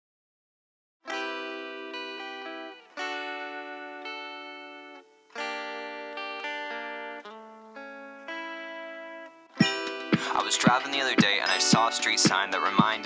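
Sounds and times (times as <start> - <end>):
guitar chords ringing: 1.1 - 13.0.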